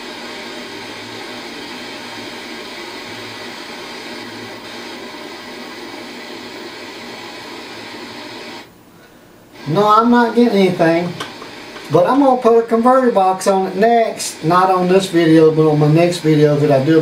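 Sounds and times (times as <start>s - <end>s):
tv static hiss: 0.0s - 17.0s.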